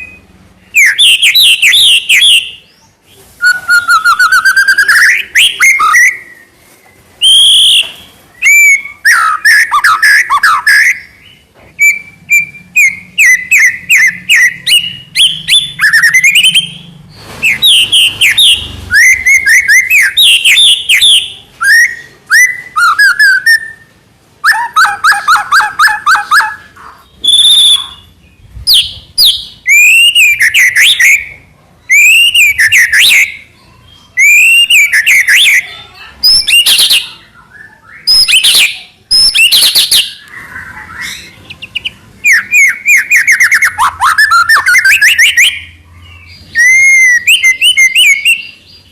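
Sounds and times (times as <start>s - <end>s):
bird singing whistled phrases: 0.0s - 16.8s, 17.4s - 48.9s.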